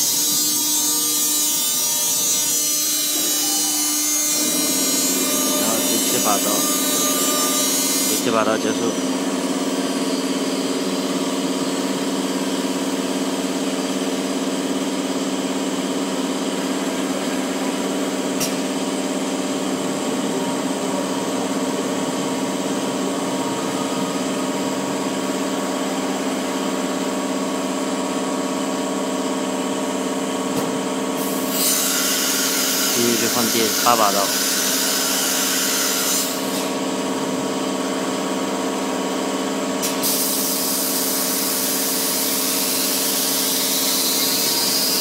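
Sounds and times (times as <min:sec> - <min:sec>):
cnc router humming: 0:00.0 - 0:45.0.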